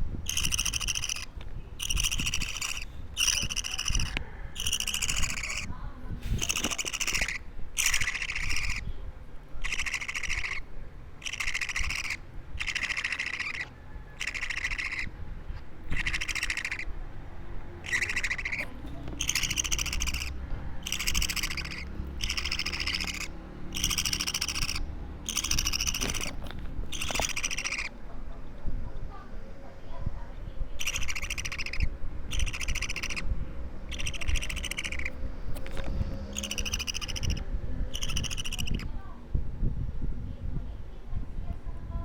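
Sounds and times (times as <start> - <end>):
bird chick raspy calls: 0.2 - 28.4, 30.7 - 39.1.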